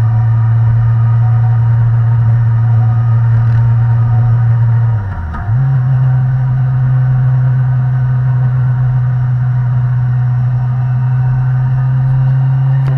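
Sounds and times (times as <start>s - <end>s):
motorcycle engine pulling steadily: 0.0s - 12.9s.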